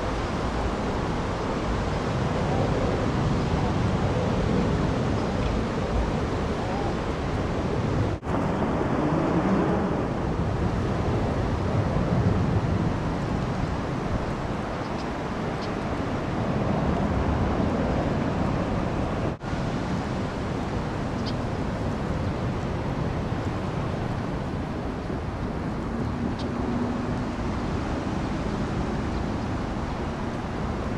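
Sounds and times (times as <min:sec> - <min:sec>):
distant traffic hum: 0:00.0 - 0:30.9
wind rumbling on microphone: 0:00.0 - 0:30.9.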